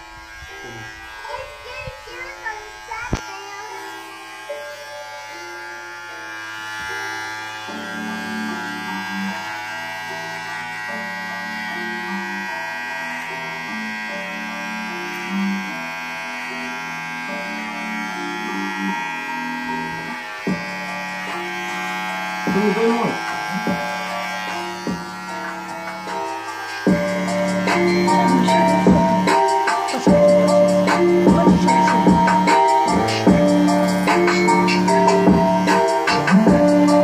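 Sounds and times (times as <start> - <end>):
hair trimmer buzzing: 0.0 - 37.0
music playing: 0.1 - 37.0.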